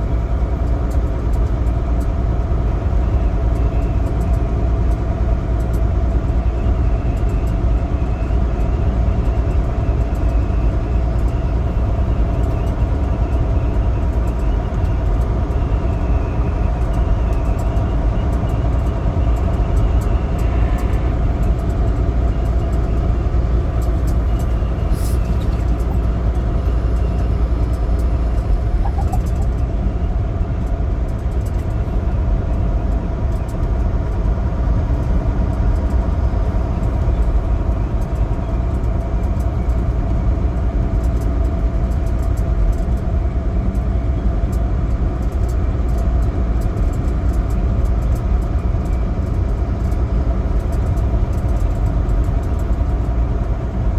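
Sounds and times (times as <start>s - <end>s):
diesel truck engine drone: 0.0s - 53.9s
tire and road noise: 0.0s - 53.9s.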